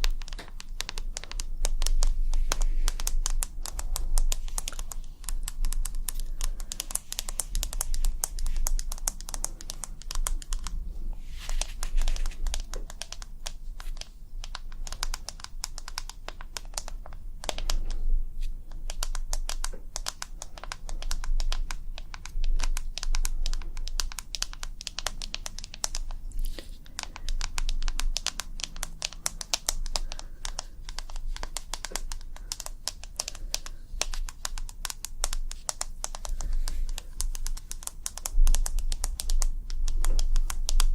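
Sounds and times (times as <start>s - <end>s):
faint low hum: 0.0s - 40.9s
rapid fingertip tapping clicks: 0.0s - 40.9s.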